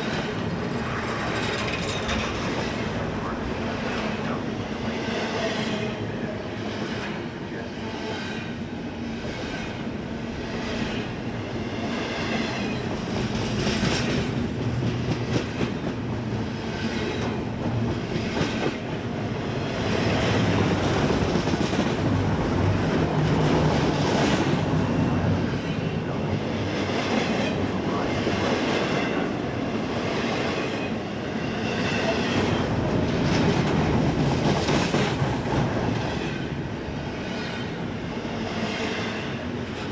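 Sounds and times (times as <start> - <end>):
wheels clacking on rail joints: 0.0 - 6.1, 8.3 - 38.0
freight train wheels rumbling: 0.0 - 39.9.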